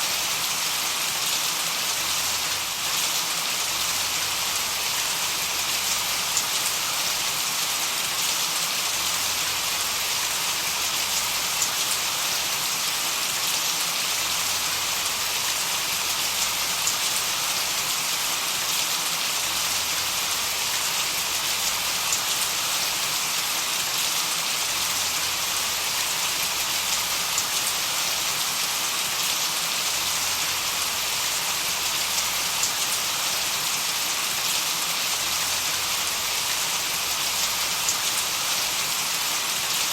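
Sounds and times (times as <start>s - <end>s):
rain-like white-noise hiss: 0.0s - 39.9s.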